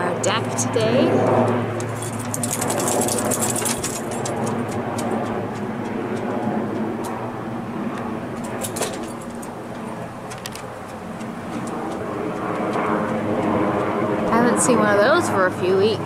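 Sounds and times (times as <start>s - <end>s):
helicopter rotor drone: 0.0s - 16.0s.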